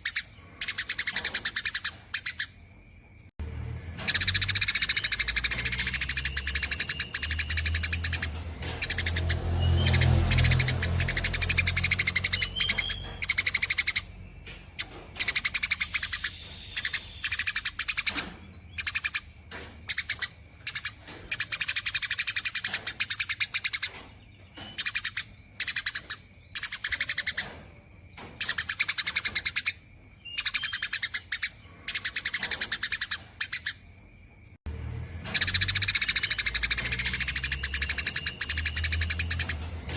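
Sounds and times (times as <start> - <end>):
sparrow chattering trill: 0.0 - 2.6, 4.0 - 24.0, 24.6 - 33.9, 35.3 - 39.9.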